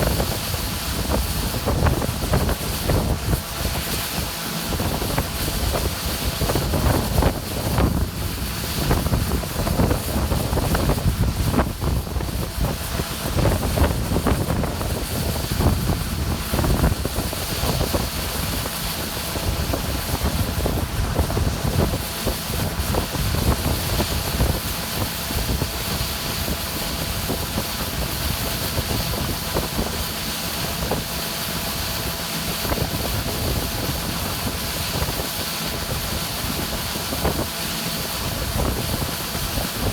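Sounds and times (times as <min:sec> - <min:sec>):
heavy harvest machinery running: 0:00.0 - 0:39.9
wind buffeting microphone: 0:00.0 - 0:39.9.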